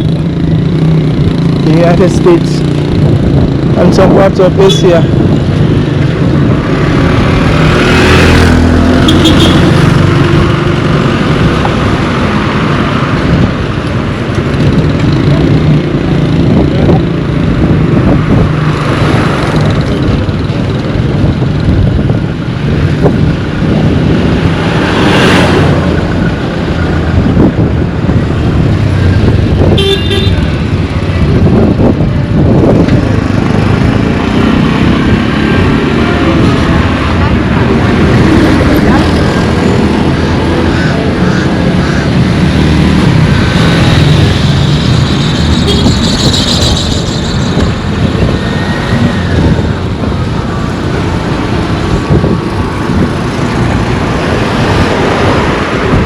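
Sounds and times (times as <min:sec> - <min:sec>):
traffic rumble: 0:00.0 - 0:56.0
vehicles passing by: 0:00.0 - 0:56.0.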